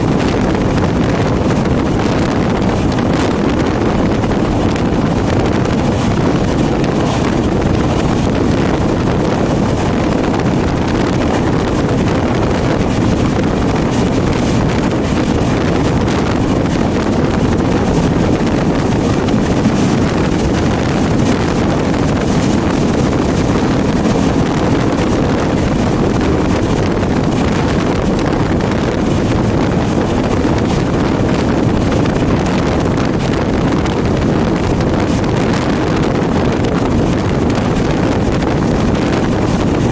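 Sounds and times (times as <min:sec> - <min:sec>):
train rumbling: 0:00.0 - 0:39.9
wind on microphone: 0:00.0 - 0:39.9.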